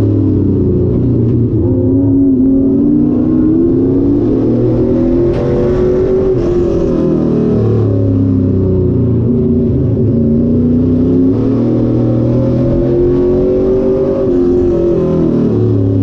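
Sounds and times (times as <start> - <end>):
race car engine at speed: 0.0 - 16.0.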